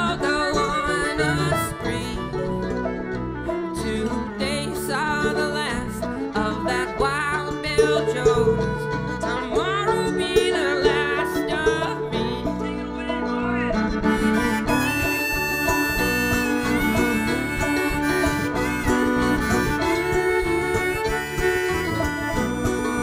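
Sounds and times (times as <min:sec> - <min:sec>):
bluegrass string band playing: 0:00.0 - 0:23.0.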